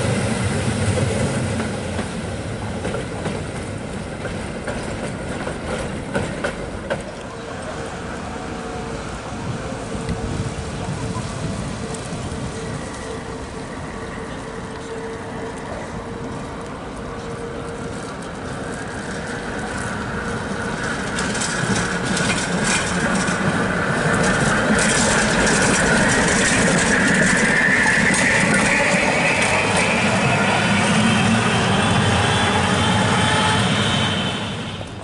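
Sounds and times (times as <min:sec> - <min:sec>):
tram motor whine: 0:00.0 - 0:35.0
wheels rattling on rails: 0:00.0 - 0:35.0.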